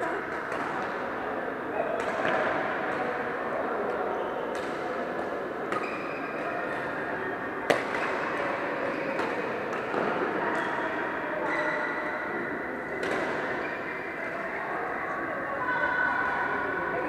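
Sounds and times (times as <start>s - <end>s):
sports hall background noise: 0.0s - 17.0s.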